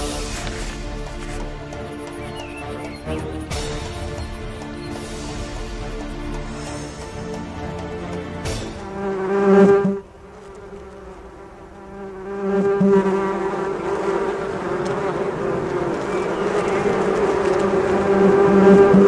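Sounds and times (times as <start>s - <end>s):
low buzzing drone: 0.0s - 19.0s.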